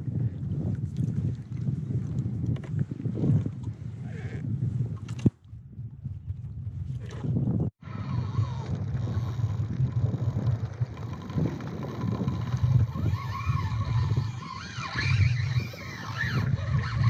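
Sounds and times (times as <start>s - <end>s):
water against kayak hull: 0.0s - 17.0s
wind buffeting microphone: 0.0s - 17.0s.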